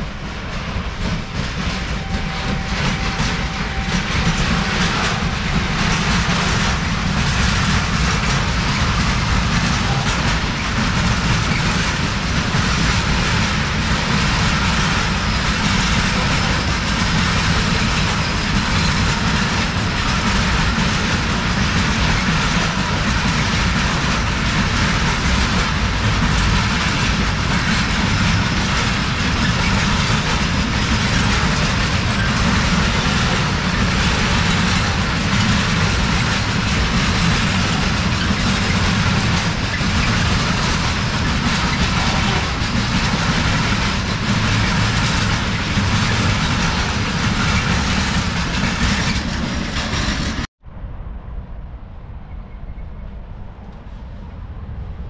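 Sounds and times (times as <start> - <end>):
freight train wheels rumbling: 0.0 - 55.0
wheels clicking over rail joints: 0.5 - 50.5.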